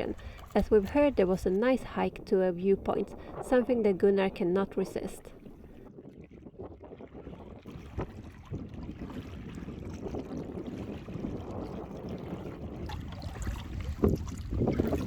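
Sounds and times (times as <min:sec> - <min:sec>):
water rushing around boat: 0:00.0 - 0:15.0
wind noise on microphone: 0:00.0 - 0:15.0.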